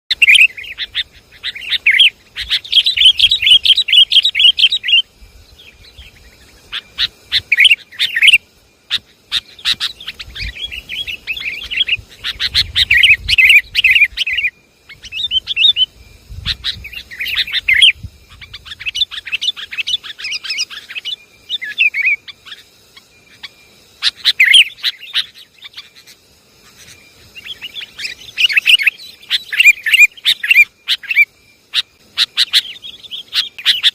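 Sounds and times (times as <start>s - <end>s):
bird chattering chirps: 0.1s - 5.0s, 6.0s - 33.9s.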